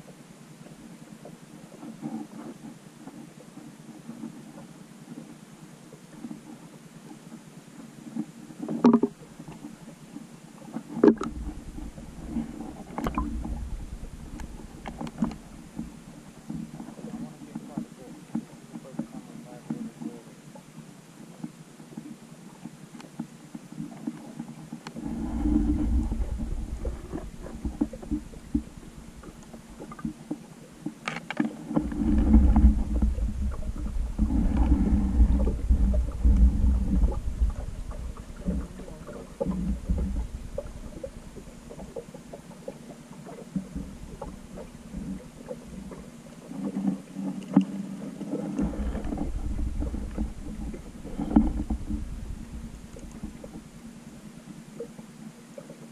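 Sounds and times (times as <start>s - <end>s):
muffled underwater sloshing: 0.0s - 55.9s.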